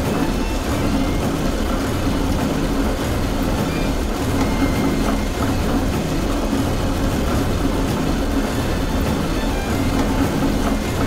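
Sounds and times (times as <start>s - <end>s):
conveyor belt rumbling: 0.0s - 11.0s.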